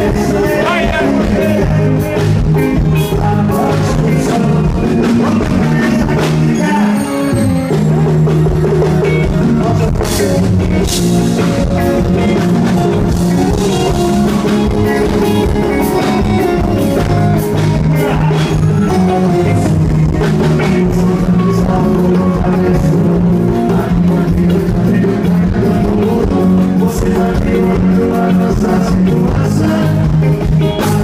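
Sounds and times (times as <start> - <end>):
drum kit: 0.0 - 31.0
guitar: 0.0 - 31.0
live band playing over pa: 0.0 - 31.0.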